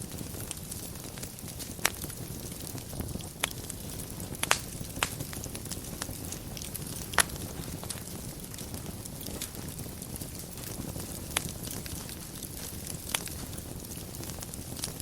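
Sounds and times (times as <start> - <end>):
fire crackling and popping: 0.0 - 15.0
fire rumbling and hissing: 0.0 - 15.0.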